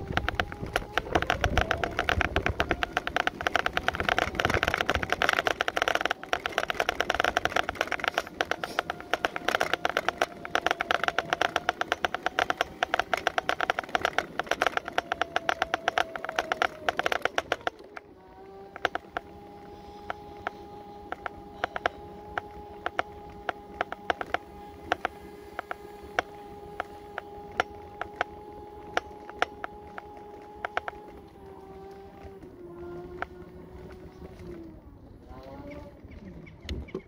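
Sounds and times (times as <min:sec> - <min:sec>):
scooter motor whining: 0:00.0 - 0:37.0
scooter rattling over road: 0:00.0 - 0:37.0.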